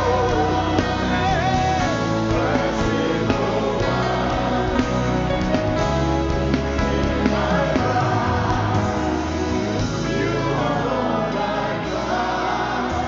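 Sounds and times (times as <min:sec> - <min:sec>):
band holding slow sustained chords: 0:00.0 - 0:13.0.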